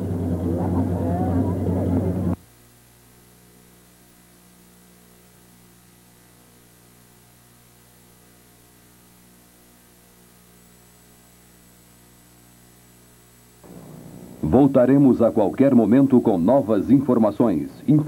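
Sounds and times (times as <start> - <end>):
electrical mains hum: 0.0 - 18.0
faint hiss: 0.0 - 18.0.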